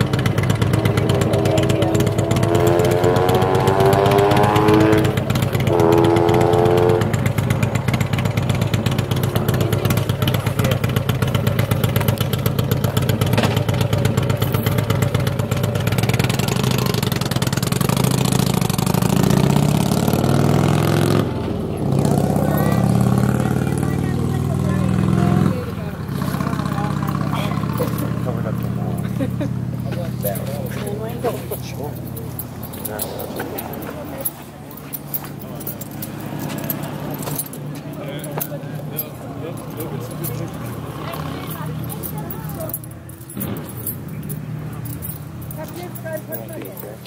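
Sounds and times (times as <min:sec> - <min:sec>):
vehicle engine accelerating: 0:00.0 - 0:47.0.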